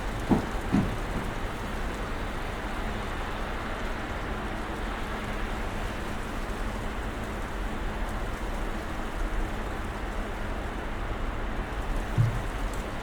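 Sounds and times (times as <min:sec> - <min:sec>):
snowstorm hiss: 0:00.0 - 0:13.0.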